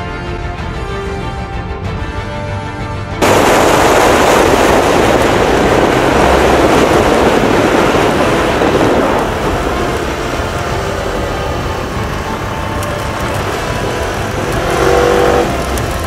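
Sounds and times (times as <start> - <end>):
music: 0.0 - 16.0
wind and road noise: 0.0 - 16.0.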